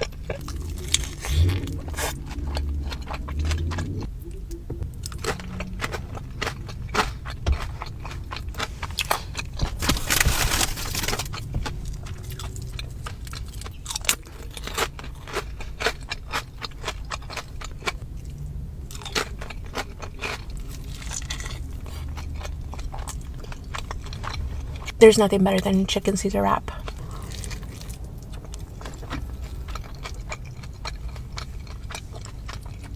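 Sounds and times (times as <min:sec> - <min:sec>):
chewing crunchy food: 0:00.0 - 0:25.0, 0:26.7 - 0:32.9.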